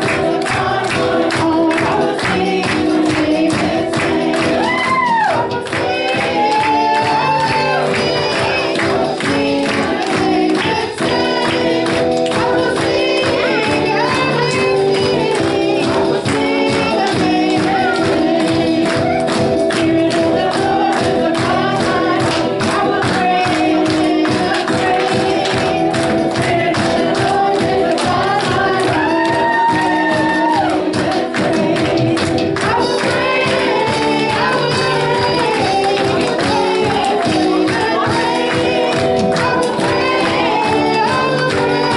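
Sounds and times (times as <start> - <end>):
group singing: 0.0 - 41.9
steady percussion beat: 0.0 - 41.9.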